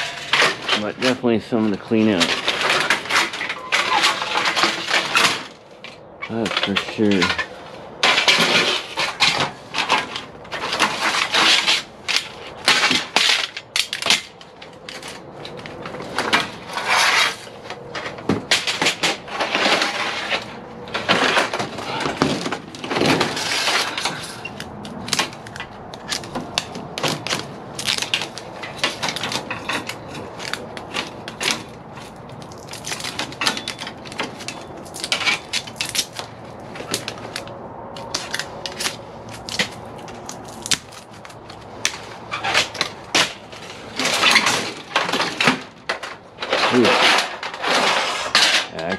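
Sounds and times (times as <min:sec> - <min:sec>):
metal extrusions clattering: 0:00.0 - 0:40.2, 0:41.3 - 0:48.9.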